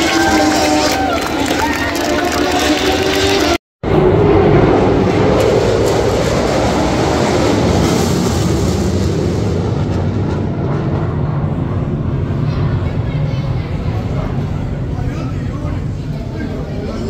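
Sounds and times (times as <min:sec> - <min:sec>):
loud vehicle rumble: 0:00.0 - 0:17.0.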